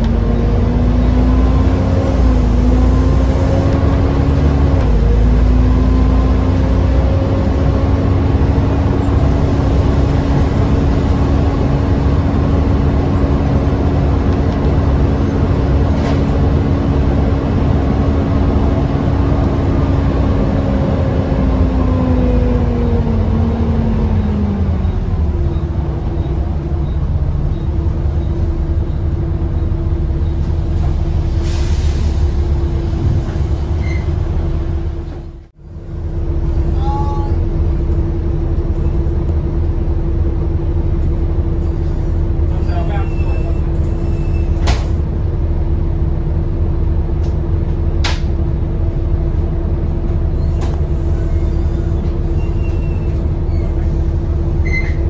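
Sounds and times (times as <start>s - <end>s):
bus engine rumble and whine: 0.0s - 55.0s.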